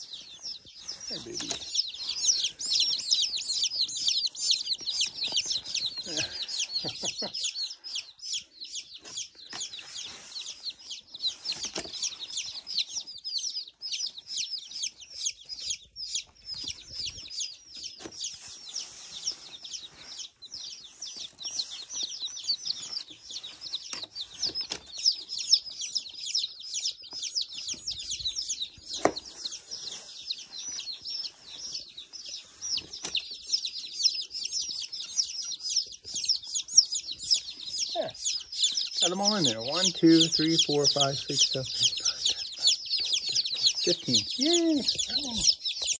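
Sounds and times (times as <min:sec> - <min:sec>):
chicks peeping: 0:00.0 - 0:46.0.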